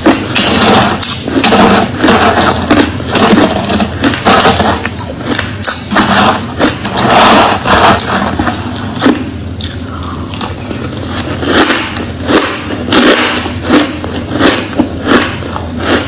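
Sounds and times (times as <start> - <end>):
ice crunching while chewed: 0.0 - 16.0.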